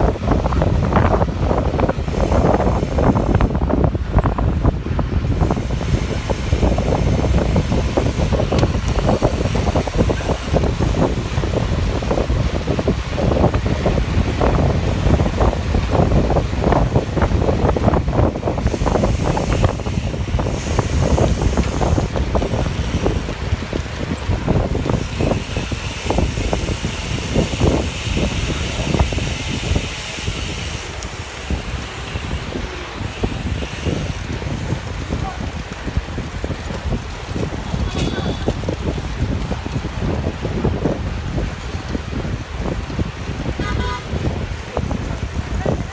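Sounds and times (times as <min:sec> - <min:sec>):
road noise: 0:00.0 - 0:45.9
wind buffeting microphone: 0:00.0 - 0:45.9.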